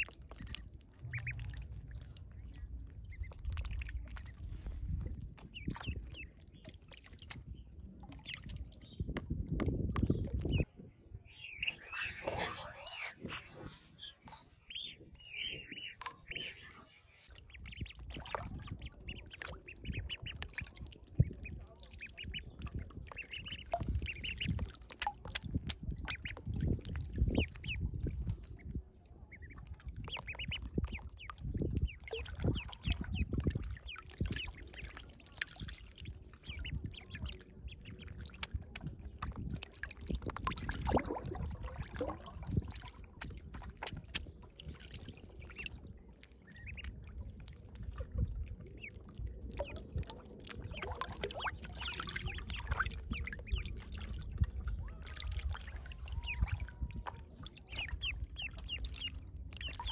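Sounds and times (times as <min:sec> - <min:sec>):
ducklings peeping: 0:00.0 - 0:02.1, 0:03.0 - 0:48.0, 0:48.7 - 0:59.9
water sloshing in a basin: 0:00.0 - 0:59.9.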